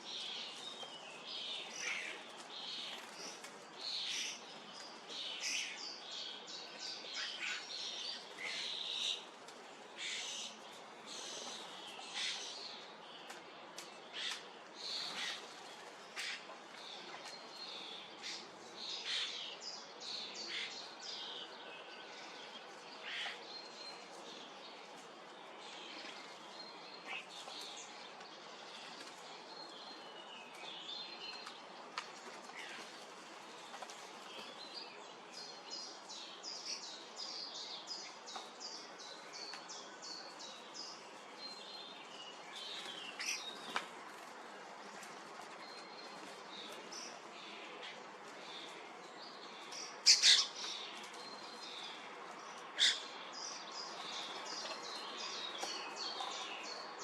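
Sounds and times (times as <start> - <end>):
faint background noise: 0.0 - 57.0
small birds chirping: 0.0 - 57.0.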